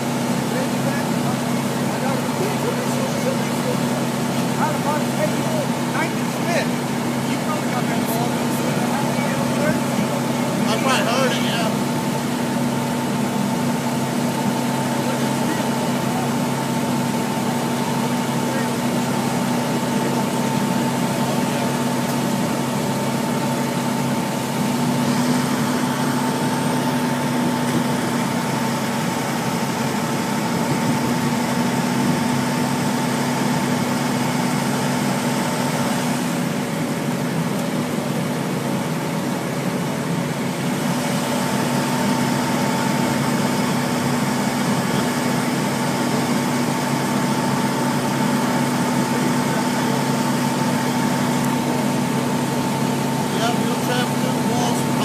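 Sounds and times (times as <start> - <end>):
fire engine motor droning: 0.0 - 55.0.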